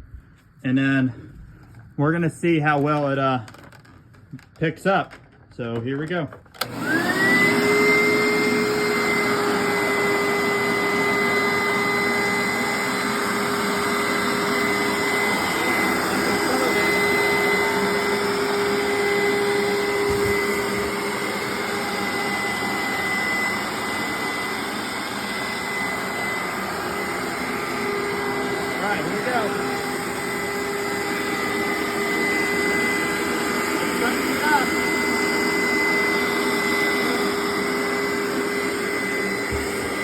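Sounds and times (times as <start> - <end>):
carpet cleaner motor whining: 2.7 - 40.0
rushing suction noise: 6.6 - 40.0.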